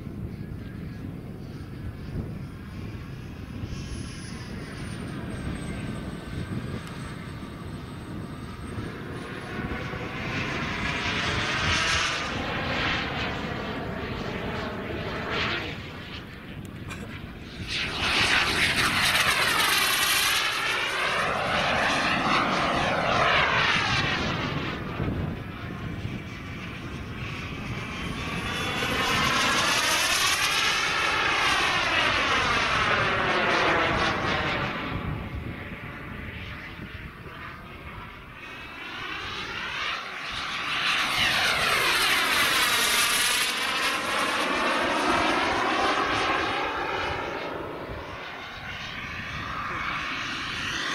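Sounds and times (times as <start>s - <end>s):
model jet turbine rushing: 0.0s - 50.9s.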